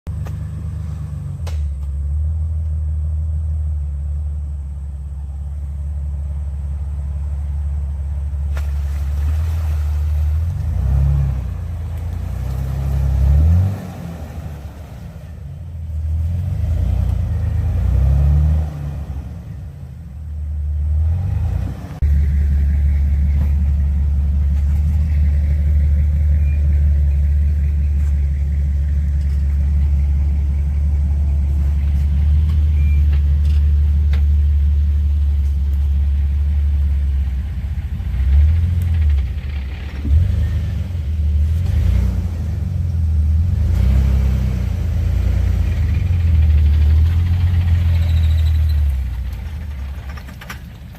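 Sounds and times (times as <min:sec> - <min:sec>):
off-road engine revving: 0:06.0 - 0:50.6.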